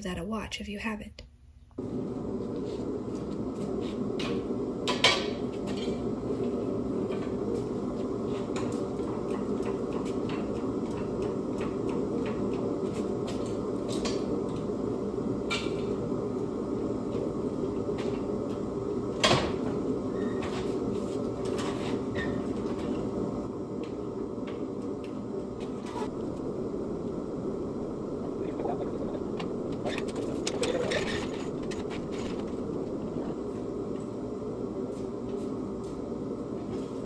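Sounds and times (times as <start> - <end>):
steady low hum: 1.4 - 37.0.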